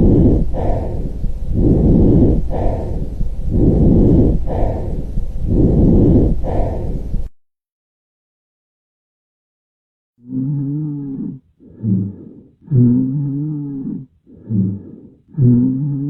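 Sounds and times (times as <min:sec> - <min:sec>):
lung breath sounds: 0:00.0 - 0:07.4, 0:10.2 - 0:16.0.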